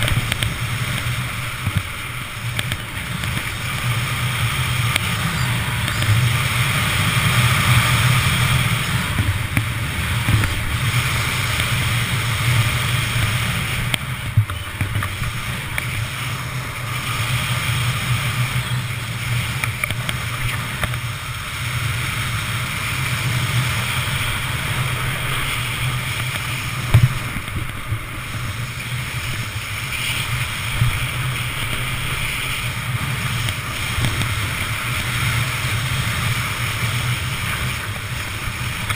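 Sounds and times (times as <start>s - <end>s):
snowboard scraping on snow: 0.0s - 38.9s.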